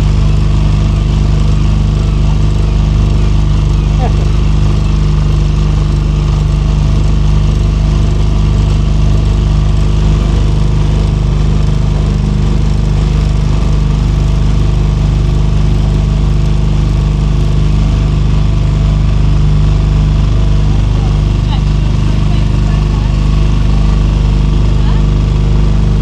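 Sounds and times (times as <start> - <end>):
small motorboat engine running: 0.0 - 26.0.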